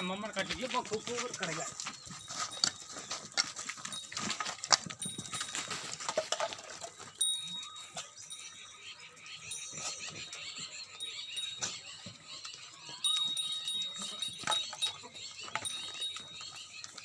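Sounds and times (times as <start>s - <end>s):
goat hooves clicking and knocking: 0.0s - 17.0s.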